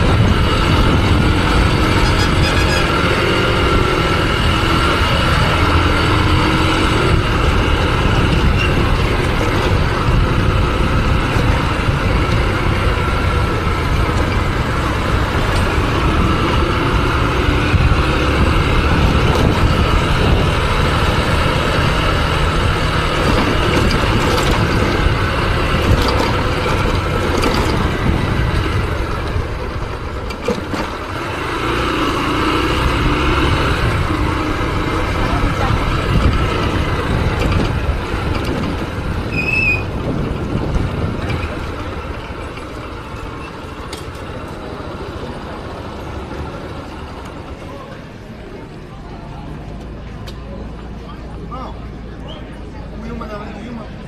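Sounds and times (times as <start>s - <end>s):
motorcycle engine running: 0.0s - 48.8s
road and wind noise: 0.0s - 54.0s.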